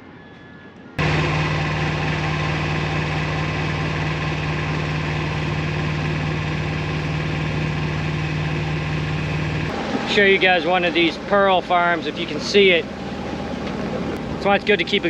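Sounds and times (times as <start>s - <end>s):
boat engine running: 1.0s - 15.0s.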